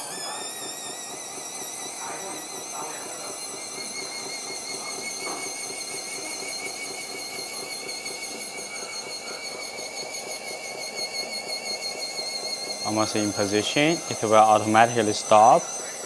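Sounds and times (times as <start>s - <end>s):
electric gearmotor whine: 0.0s - 16.0s.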